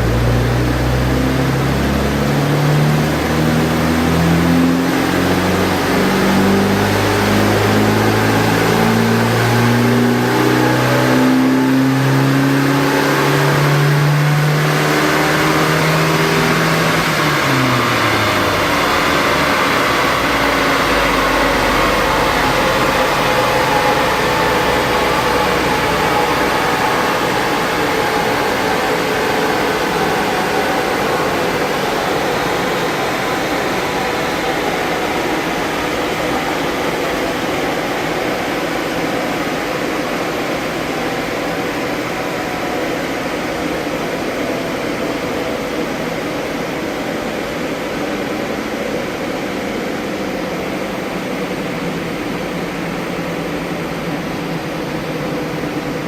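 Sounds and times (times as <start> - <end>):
car engine on rolling road: 0.0 - 56.0.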